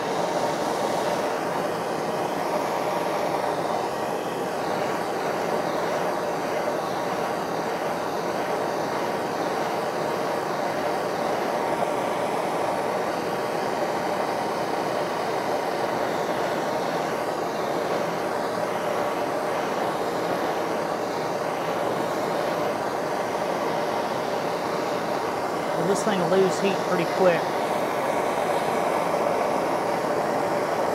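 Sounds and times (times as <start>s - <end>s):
gas torch flame rushing: 0.0s - 30.9s.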